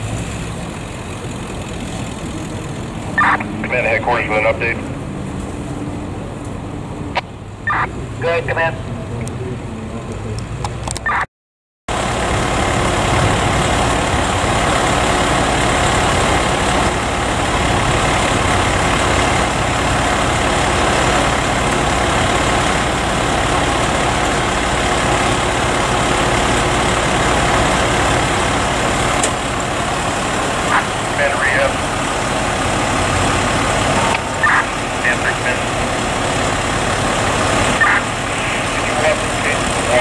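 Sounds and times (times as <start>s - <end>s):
fire engine motor running: 0.0s - 11.2s, 11.9s - 40.0s.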